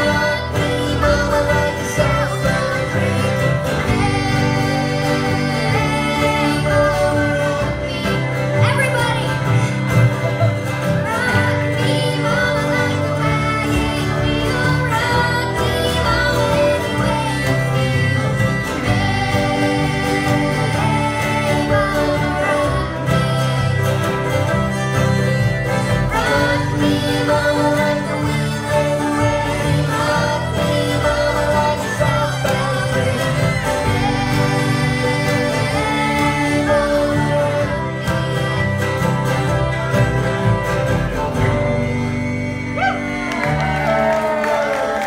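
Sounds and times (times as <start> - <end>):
bowed fiddle: 0.0 - 45.0
strummed acoustic guitars: 0.0 - 45.0
upright bass: 0.0 - 45.0.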